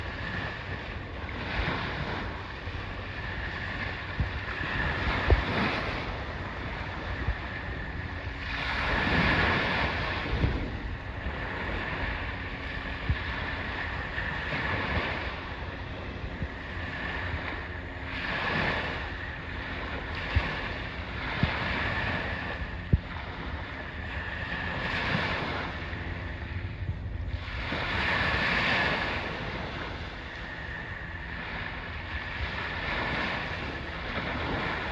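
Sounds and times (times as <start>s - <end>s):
sea waves washing: 0.0s - 34.9s
wind rumbling on microphone: 0.0s - 34.9s.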